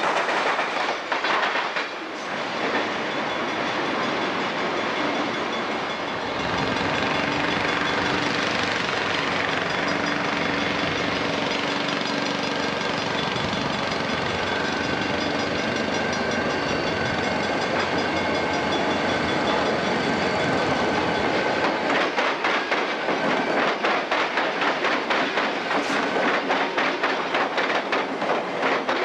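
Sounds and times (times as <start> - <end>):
wheels clicking over rail joints: 0.0 - 29.0
diesel locomotives passing: 1.8 - 29.0.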